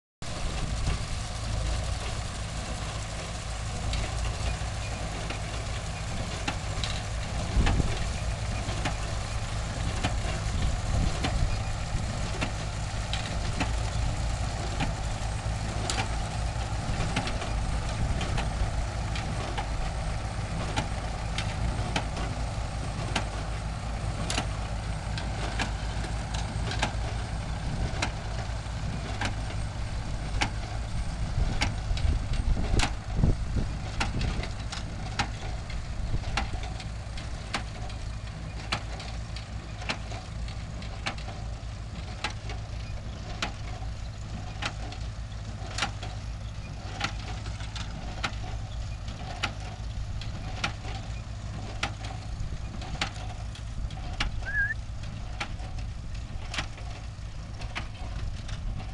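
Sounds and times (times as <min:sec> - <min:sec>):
tractor engine running: 0:00.2 - 0:58.9.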